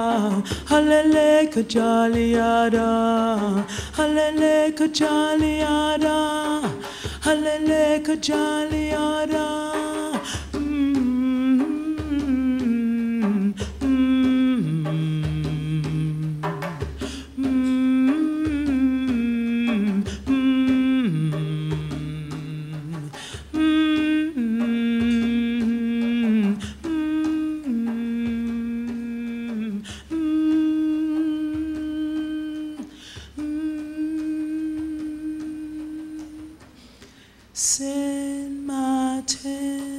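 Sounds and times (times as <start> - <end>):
woman humming: 0.0 - 36.8
hand-drum strikes: 0.0 - 39.9.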